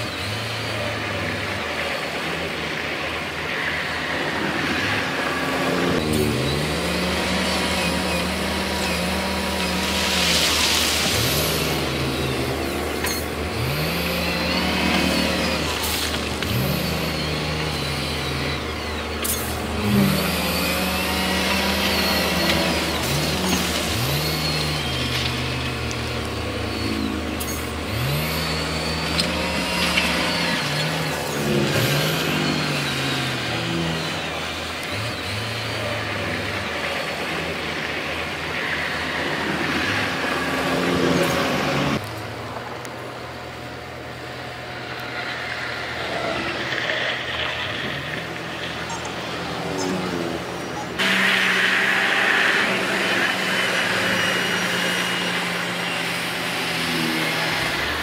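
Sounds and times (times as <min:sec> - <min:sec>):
heavy diesel machinery revving: 0:00.0 - 0:58.0.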